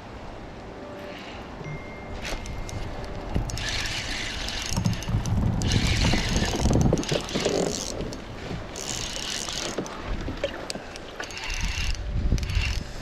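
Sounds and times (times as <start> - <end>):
wind on microphone: 1.6 - 10.5, 11.4 - 13.0.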